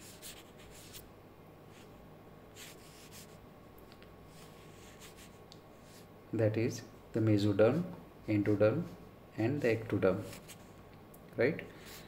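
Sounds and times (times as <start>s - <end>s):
low steady hum and hiss: 0.0s - 12.0s.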